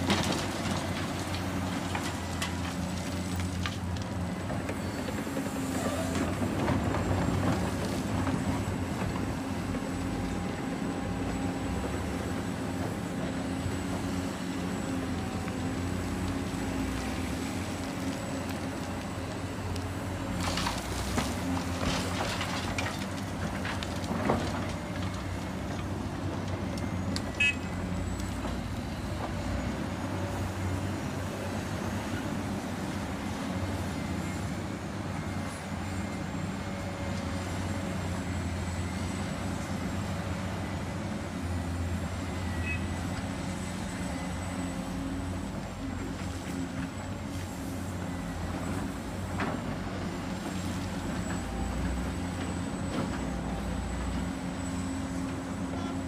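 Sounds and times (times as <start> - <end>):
heavy diesel excavator engine: 0.0 - 56.0.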